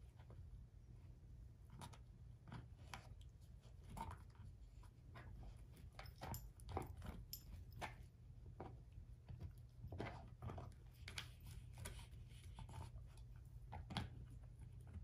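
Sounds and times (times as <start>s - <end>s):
dog chewing bone: 1.7s - 15.0s.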